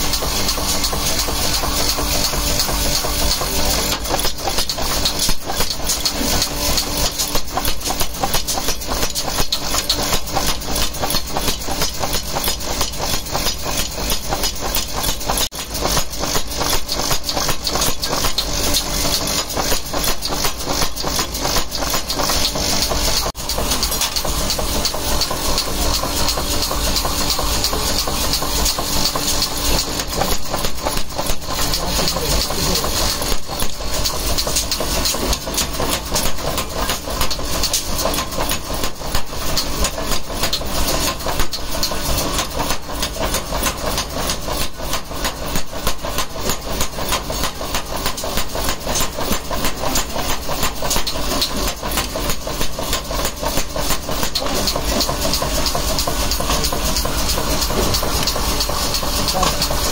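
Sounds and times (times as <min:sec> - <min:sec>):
machine hum: 0:00.0 - 0:45.6, 0:47.0 - 0:59.9
rapid hammer blows on hot iron: 0:00.0 - 0:59.9.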